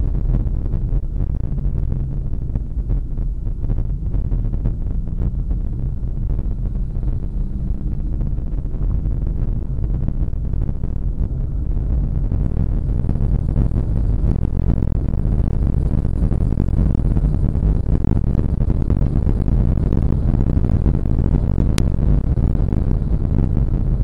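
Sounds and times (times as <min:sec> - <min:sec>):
car engine rumble at speed: 0:00.0 - 0:24.0.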